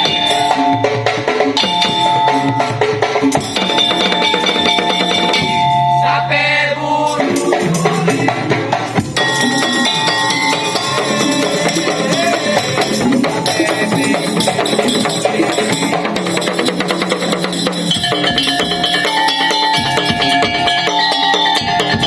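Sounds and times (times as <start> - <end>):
drums and wooden percussion: 0.0 - 22.0
melodic instruments: 0.0 - 22.0.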